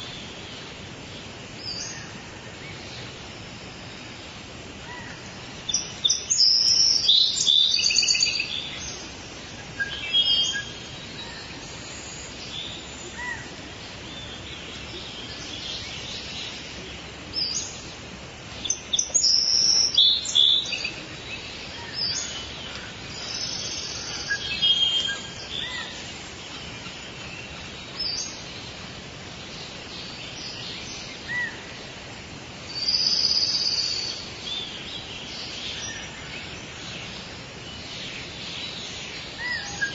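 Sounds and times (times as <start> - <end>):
birds calling and chirping: 0.0 - 39.9
steady background hiss: 0.0 - 39.9.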